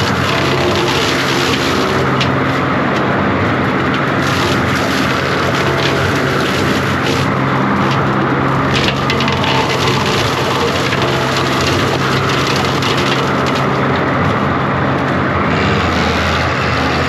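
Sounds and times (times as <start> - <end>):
diesel engine running at high revs: 0.0 - 17.0.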